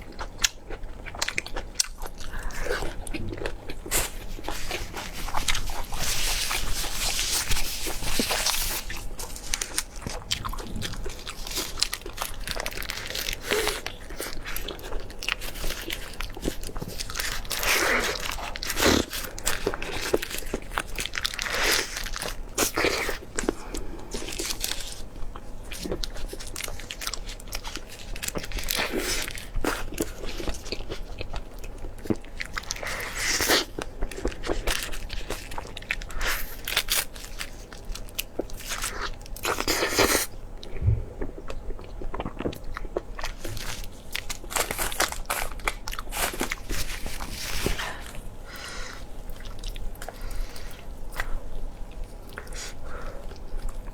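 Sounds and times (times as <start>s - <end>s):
person chewing and crunching: 0.0s - 53.9s.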